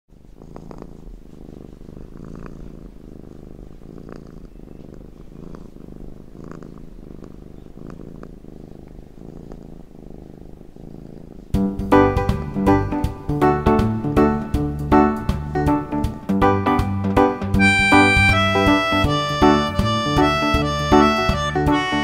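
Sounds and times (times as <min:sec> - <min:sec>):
cat purring: 0:00.1 - 0:22.0.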